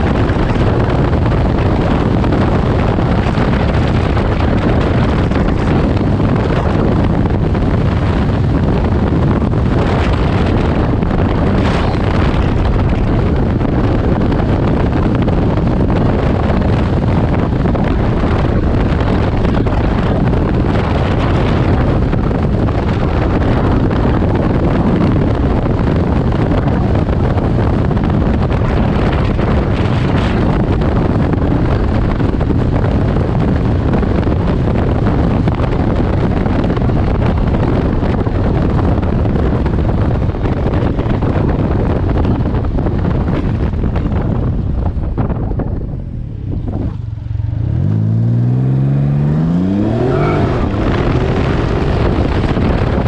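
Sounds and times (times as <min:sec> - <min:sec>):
engine and tyre noise: 0:00.0 - 0:53.0
wind noise on microphone: 0:00.0 - 0:53.0.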